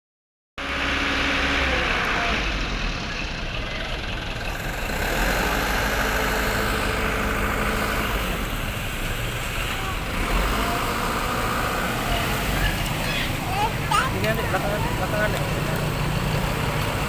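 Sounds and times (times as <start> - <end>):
truck engine humming: 0.6 - 17.0.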